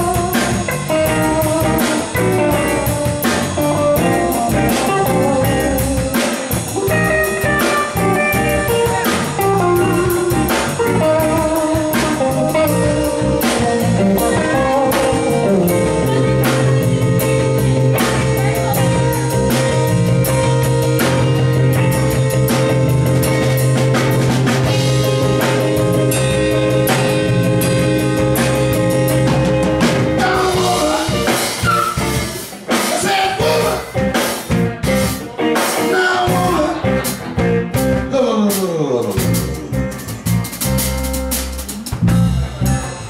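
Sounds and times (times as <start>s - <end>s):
blues-rock band playing: 0.0s - 43.0s.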